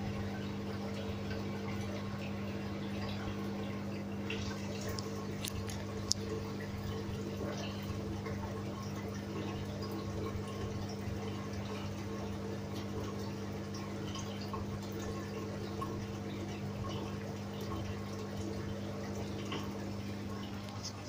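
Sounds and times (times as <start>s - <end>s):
faint water drips: 0.0s - 21.0s
water pump humming: 0.0s - 21.0s
water trickling: 0.0s - 21.0s.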